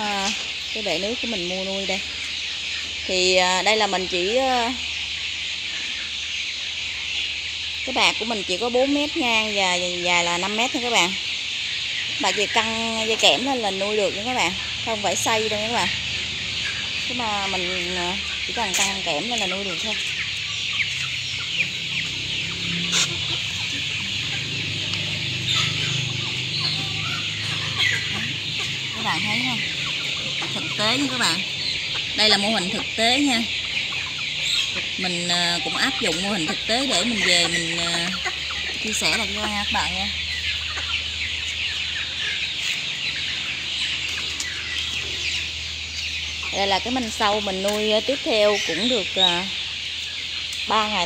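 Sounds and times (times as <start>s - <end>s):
chickens peeping and clucking: 0.0s - 51.0s.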